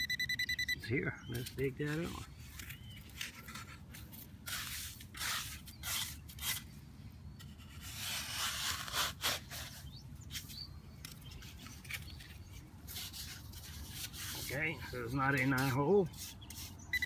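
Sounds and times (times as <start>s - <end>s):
digging tool scraping sandy soil: 1.3s - 6.8s, 7.4s - 17.0s.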